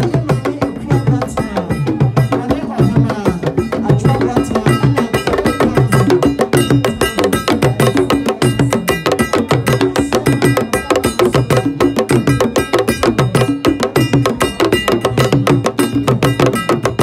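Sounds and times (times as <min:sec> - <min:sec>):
drum ensemble playing fast rhythm: 0:00.0 - 0:17.0.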